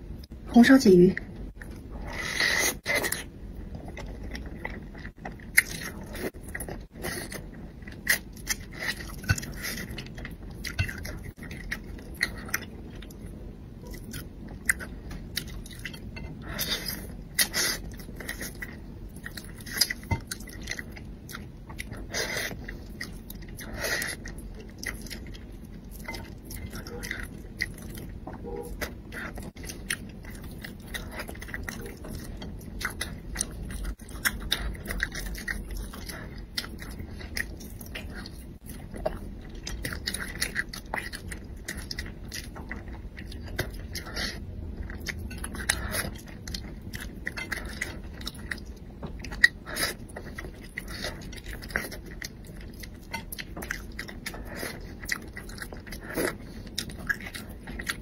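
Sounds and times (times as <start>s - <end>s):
person chewing with wet clicks: 1.2s - 58.0s.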